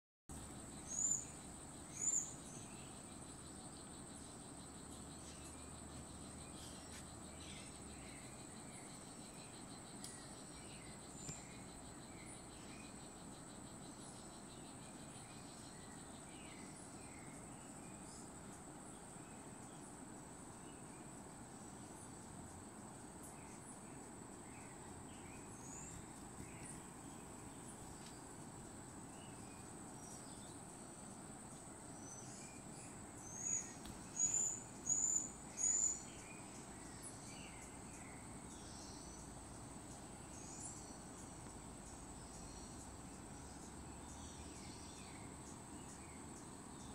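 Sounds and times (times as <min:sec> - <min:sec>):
high insect whine: 0:00.3 - 0:46.9.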